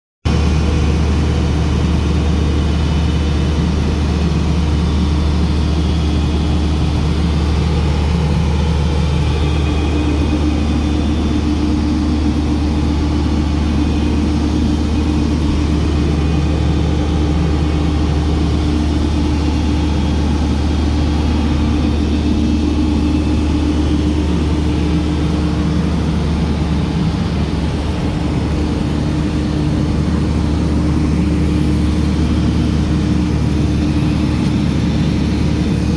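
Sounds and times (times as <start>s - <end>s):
machinery engine droning: 0.3s - 35.9s.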